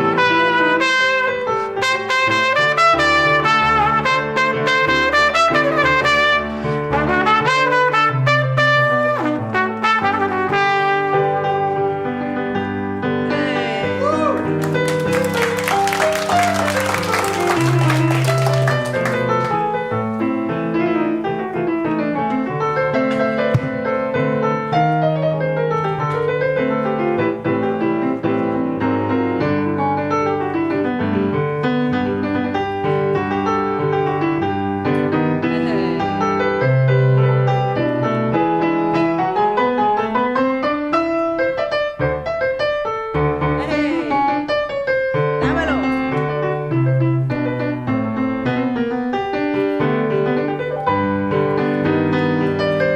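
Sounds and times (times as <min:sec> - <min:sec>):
piano melody over chords: 0:00.0 - 0:52.9.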